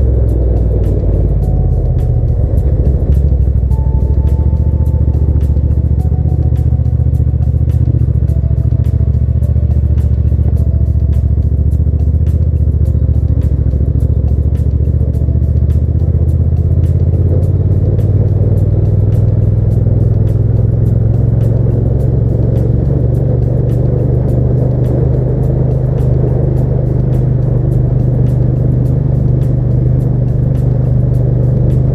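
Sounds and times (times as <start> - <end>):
background music with steady beat: 0.0 - 31.9
motorcycle engine cruising: 0.0 - 31.9.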